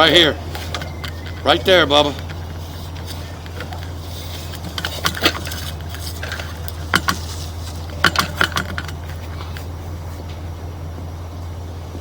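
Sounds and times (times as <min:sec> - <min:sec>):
metallic clicks and rattles: 0:00.0 - 0:09.7
low hum: 0:00.0 - 0:12.0.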